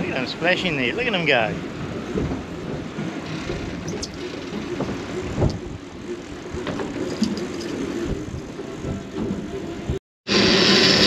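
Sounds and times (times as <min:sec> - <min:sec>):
motorboat engine drone: 0:00.0 - 0:11.0
wind: 0:00.0 - 0:11.0.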